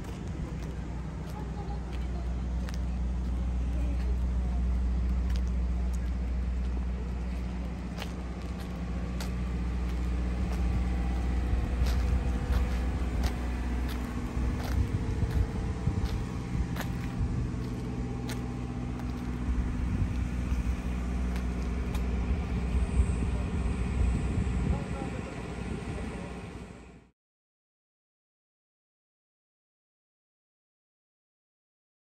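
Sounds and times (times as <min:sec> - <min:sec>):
engine rumbling: 0:00.0 - 0:27.1.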